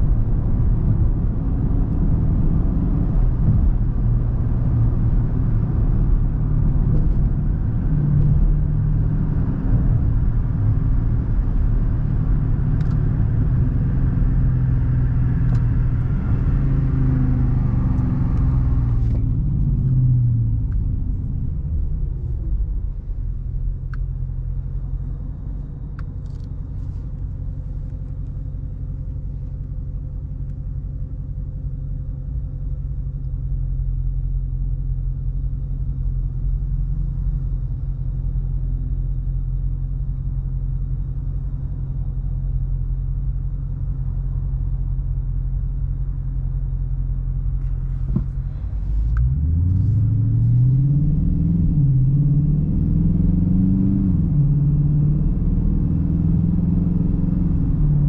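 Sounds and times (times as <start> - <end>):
car engine driving: 0.0 - 58.0
road noise: 0.0 - 58.0
car engine idling: 3.2 - 50.4.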